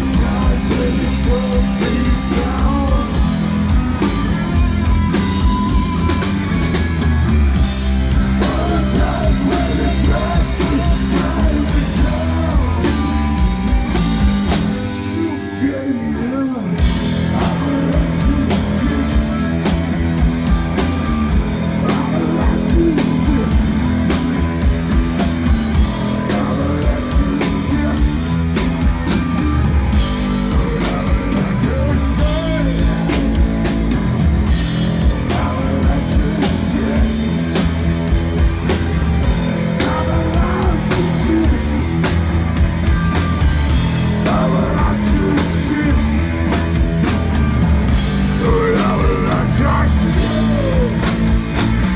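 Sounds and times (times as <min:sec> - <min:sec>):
drum kit steady beat: 0:00.0 - 0:15.0, 0:16.8 - 0:51.9
bass guitar: 0:00.0 - 0:51.9
electric guitar: 0:00.0 - 0:51.9.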